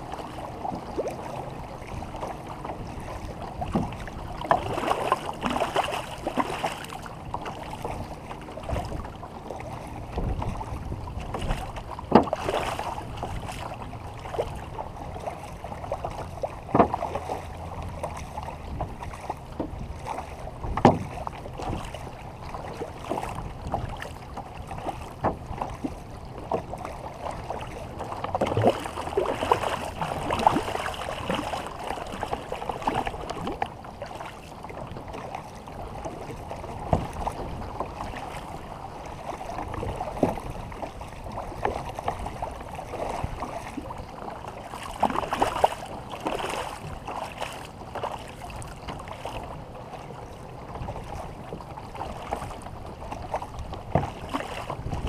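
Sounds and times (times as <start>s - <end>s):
water splashing around a canoe: 0.0s - 55.0s.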